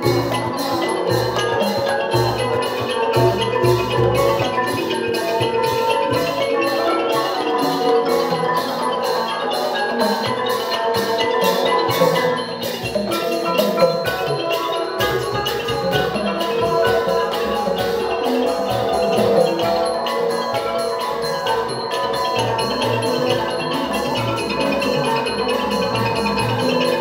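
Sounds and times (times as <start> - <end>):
drums: 0.0 - 27.0
xylophone melody: 0.0 - 27.0.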